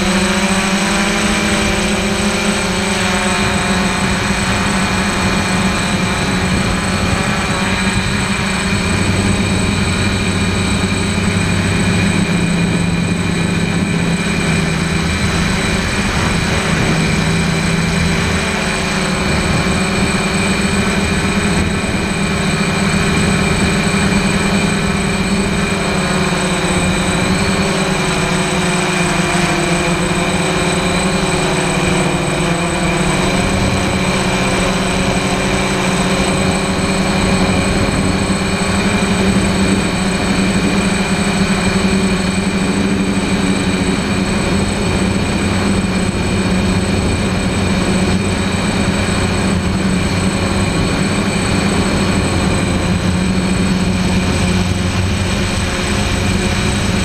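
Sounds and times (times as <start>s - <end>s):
drone motors and propellers droning: 0.0s - 57.0s.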